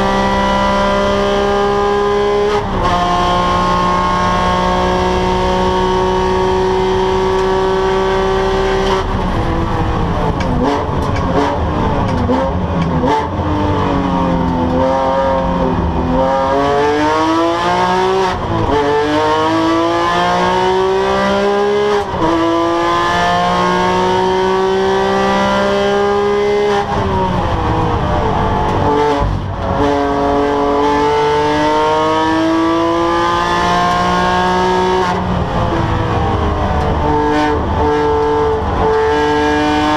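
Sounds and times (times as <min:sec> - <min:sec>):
race car engine accelerating: 0:00.0 - 0:39.9.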